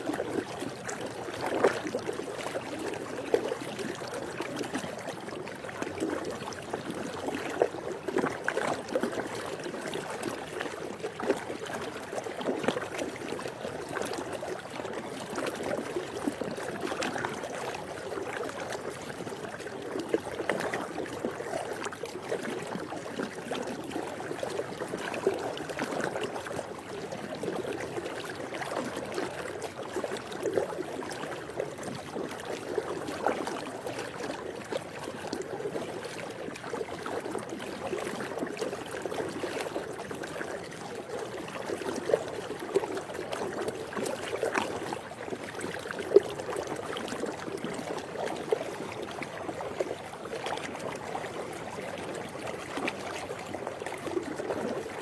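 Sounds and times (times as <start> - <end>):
pool water lapping and splashing: 0.0 - 55.0.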